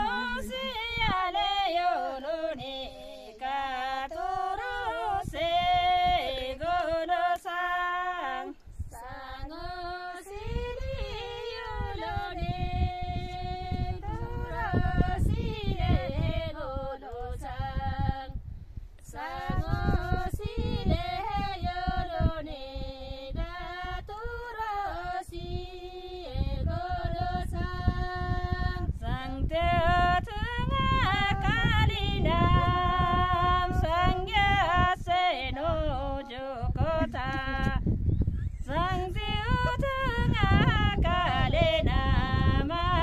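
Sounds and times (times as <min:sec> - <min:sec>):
women singing a cappella: 0:00.0 - 0:38.0, 0:38.7 - 0:43.0.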